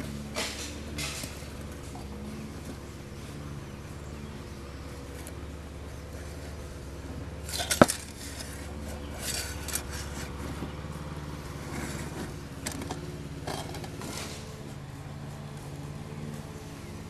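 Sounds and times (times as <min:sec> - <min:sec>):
metal scraping: 0:00.0 - 0:03.7, 0:04.5 - 0:17.0
low mechanical hum: 0:00.0 - 0:17.0.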